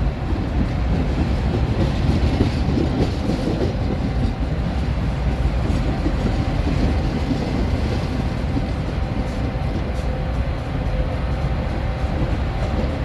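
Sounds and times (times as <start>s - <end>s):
train rumbling past on rails: 0.0s - 13.0s.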